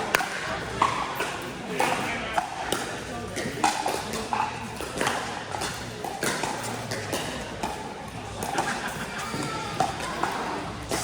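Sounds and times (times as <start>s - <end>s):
paddles hitting plastic ball: 0.0s - 11.0s.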